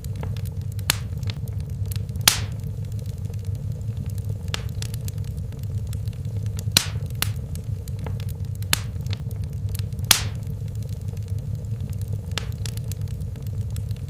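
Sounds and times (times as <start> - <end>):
fire crackles and pops: 0.0 - 14.0
flames rumbling in fireplace: 0.0 - 14.0.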